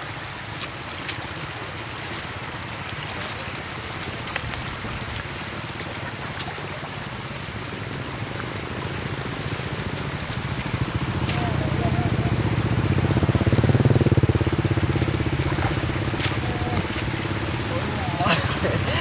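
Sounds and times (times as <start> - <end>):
water running over ground: 0.0 - 19.0.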